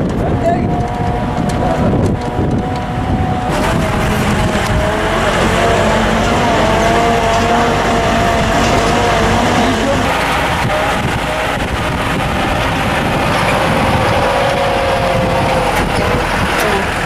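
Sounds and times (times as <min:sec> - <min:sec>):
low engine rumble: 0:00.0 - 0:17.0
vehicle drivetrain whine: 0:00.0 - 0:17.0.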